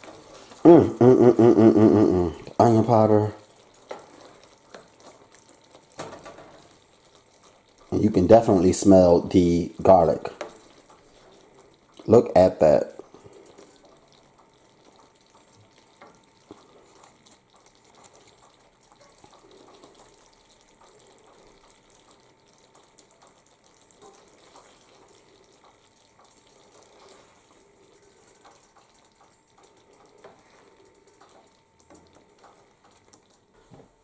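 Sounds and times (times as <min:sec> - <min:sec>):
spoon stirring thick gravy: 0:02.5 - 0:33.7
small clicks and soft sloshes: 0:03.4 - 0:08.4, 0:10.2 - 0:12.2, 0:12.9 - 0:34.0.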